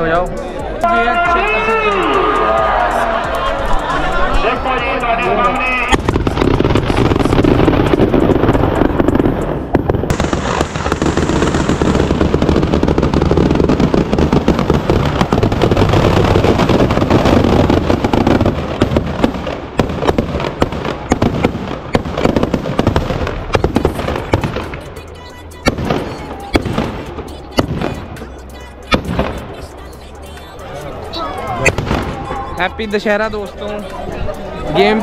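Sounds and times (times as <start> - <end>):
firecrackers crackling: 0.0 - 35.0.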